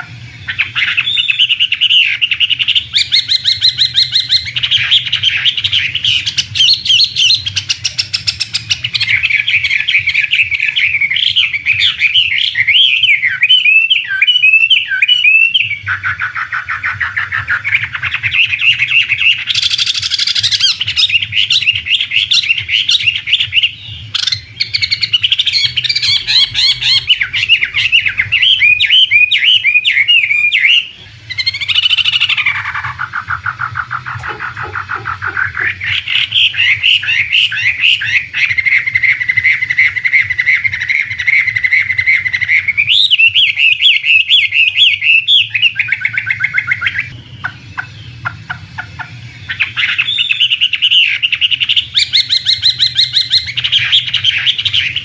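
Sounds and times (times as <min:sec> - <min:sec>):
bird singing warbled phrases: 0:00.0 - 0:55.0
faint low hum: 0:00.0 - 0:55.0.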